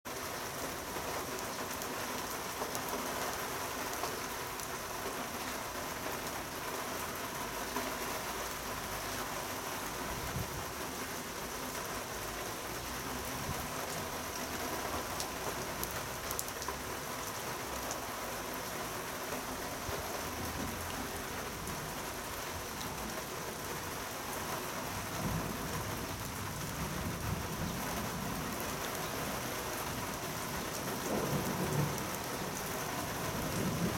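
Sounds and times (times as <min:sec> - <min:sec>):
rain falling on pond water: 0:00.0 - 0:33.9.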